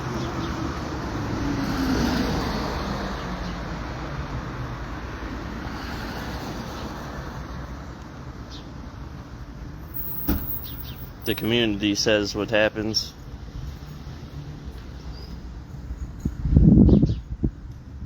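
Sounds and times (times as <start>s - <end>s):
steady road noise: 0.0s - 18.0s.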